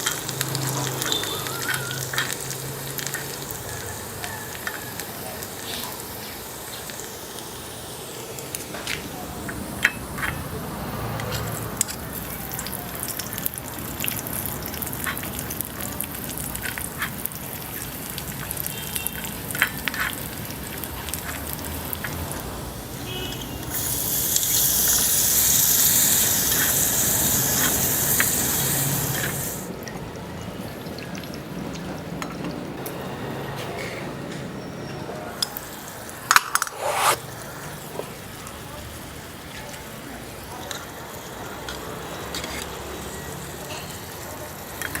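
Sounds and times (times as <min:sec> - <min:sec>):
liquid hissing in hot pan: 0:00.0 - 0:29.7, 0:35.4 - 0:45.0
food frying crackles: 0:00.0 - 0:32.9, 0:35.3 - 0:45.0.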